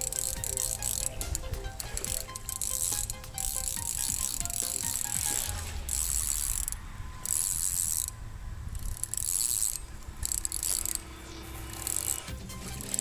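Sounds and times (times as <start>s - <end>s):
fishing reel ratcheting whir: 0.0s - 13.0s.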